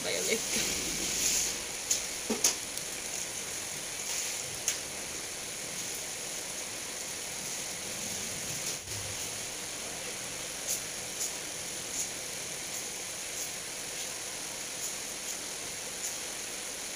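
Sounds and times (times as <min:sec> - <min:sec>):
background hiss: 0:00.0 - 0:16.9.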